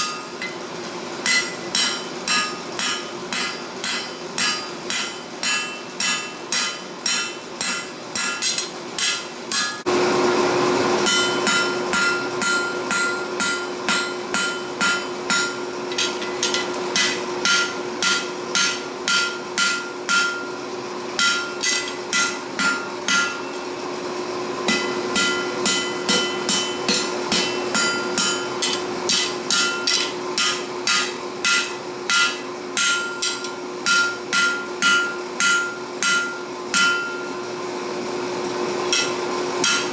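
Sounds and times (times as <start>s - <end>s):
hammer striking steel on anvil: 0.0s - 0.6s, 1.2s - 9.9s, 11.0s - 20.6s, 21.2s - 23.7s, 24.6s - 37.4s, 38.9s - 39.9s.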